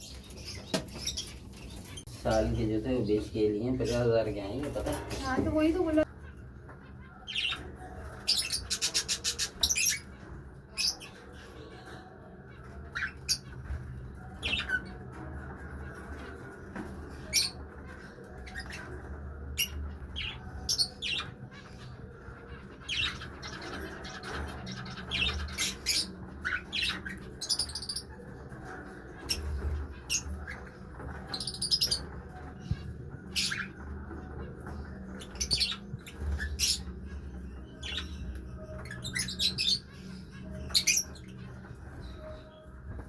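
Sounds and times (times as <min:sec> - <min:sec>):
lovebirds chirping and squawking: 0:00.0 - 0:43.0.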